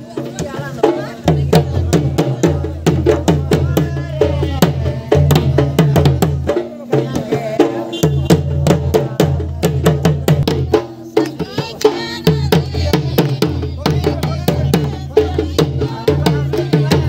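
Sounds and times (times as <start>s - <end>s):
hand drums beating fast rhythm: 0.0s - 17.0s
people singing: 0.0s - 17.0s.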